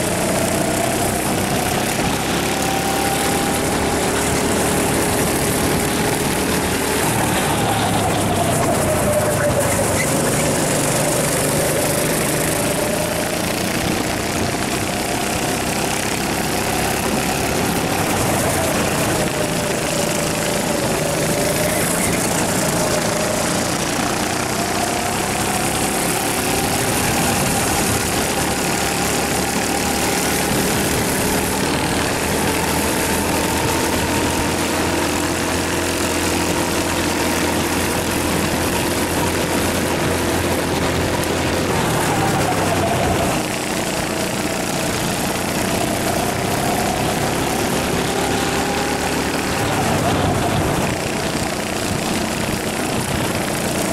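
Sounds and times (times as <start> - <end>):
go-kart engine racing: 0.0 - 53.9.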